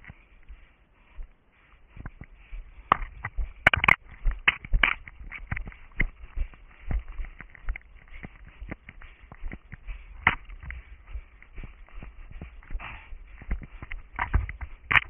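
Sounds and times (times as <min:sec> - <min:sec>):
running footsteps in forest: 0:00.0 - 0:15.0.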